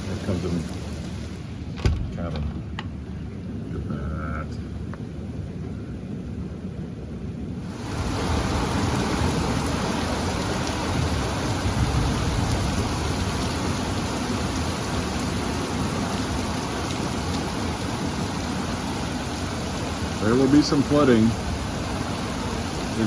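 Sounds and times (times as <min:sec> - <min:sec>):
heavy rain pouring: 0:00.0 - 0:05.6, 0:07.6 - 0:23.0.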